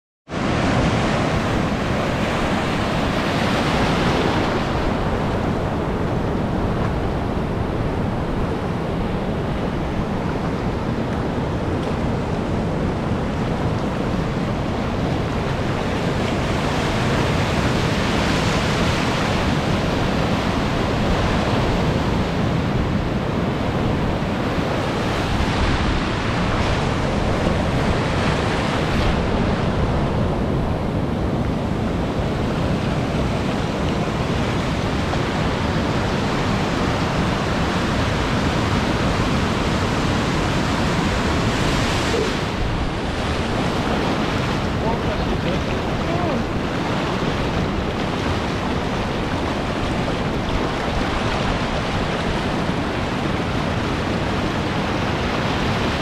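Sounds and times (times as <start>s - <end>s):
ocean surf breaking: 0.3s - 56.0s
wind buffeting microphone: 0.3s - 56.0s.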